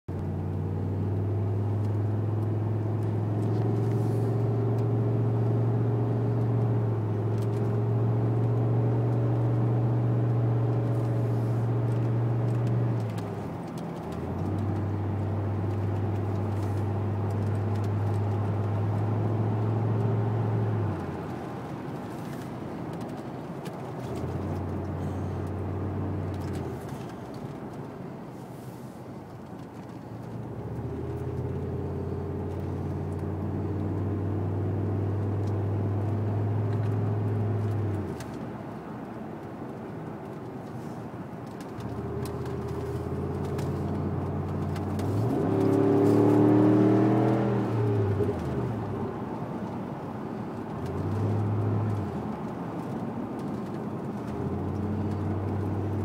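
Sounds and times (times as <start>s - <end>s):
car engine drone in cabin: 0.1s - 56.0s.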